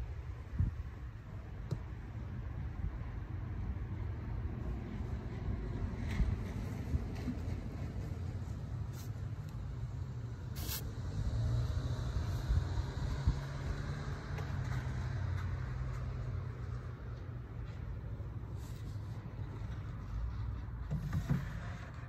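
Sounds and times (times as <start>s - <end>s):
road traffic rumbling: 0.0s - 22.0s.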